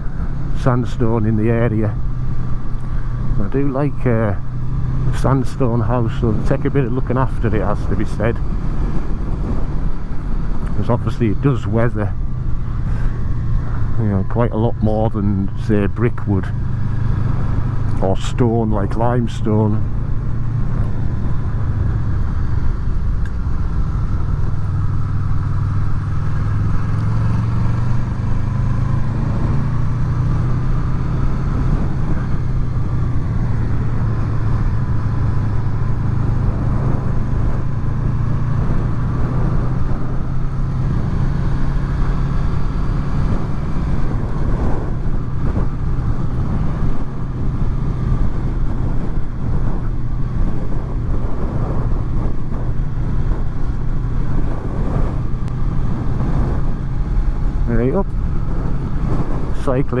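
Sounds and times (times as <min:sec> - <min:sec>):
motorcycle engine running: 0:00.0 - 1:00.0
wind and road noise: 0:00.0 - 1:00.0.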